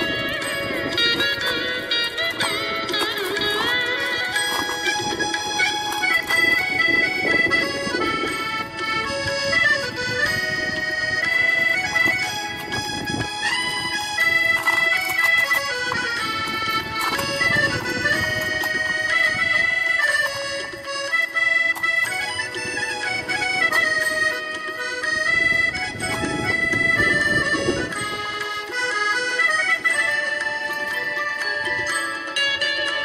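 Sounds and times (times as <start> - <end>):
accordion music: 0.0 - 33.0.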